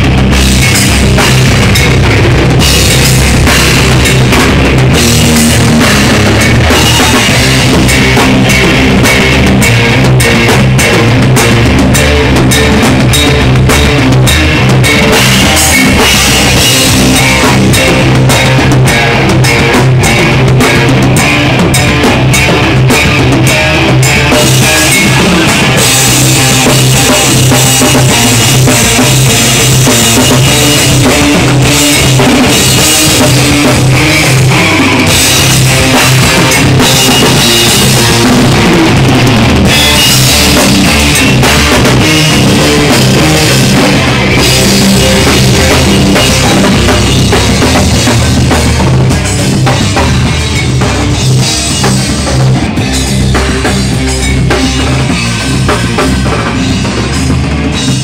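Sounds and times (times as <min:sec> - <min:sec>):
distorted electric guitars: 0:00.0 - 0:58.0
pounding drum kit: 0:00.0 - 0:58.0.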